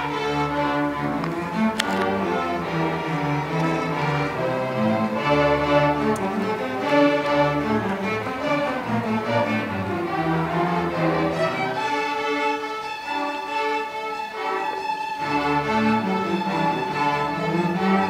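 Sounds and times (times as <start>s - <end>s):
string orchestra playing: 0.0s - 18.0s.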